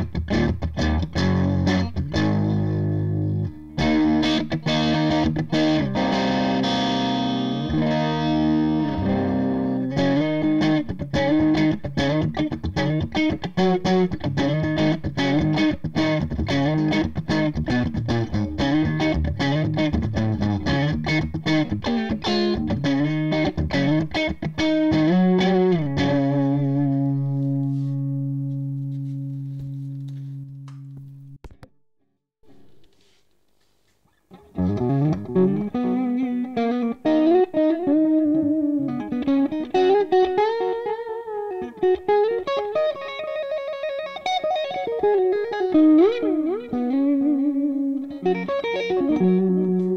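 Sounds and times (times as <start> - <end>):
electric guitar with crunch tone: 0.0 - 31.7, 34.2 - 49.9.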